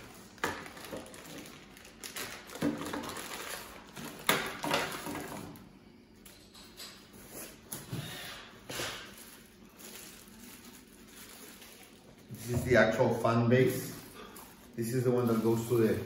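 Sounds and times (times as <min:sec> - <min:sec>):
plastic packaging rustling: 0:00.0 - 0:05.7, 0:08.6 - 0:16.0.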